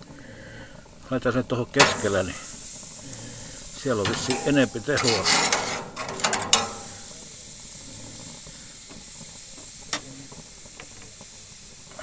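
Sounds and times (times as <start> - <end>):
steak sizzling on grill: 1.0 - 12.0.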